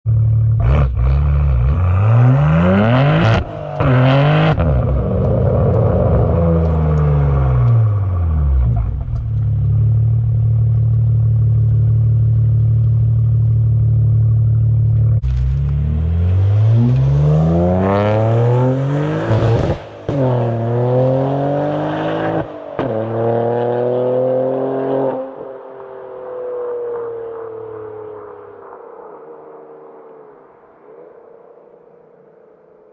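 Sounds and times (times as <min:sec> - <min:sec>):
car engine accelerating hard: 0:00.2 - 0:13.6, 0:14.2 - 0:29.3.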